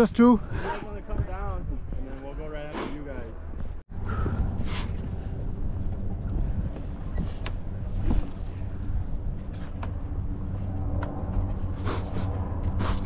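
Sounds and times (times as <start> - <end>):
wind rumbling on microphone: 0.0 - 2.7, 3.3 - 13.0.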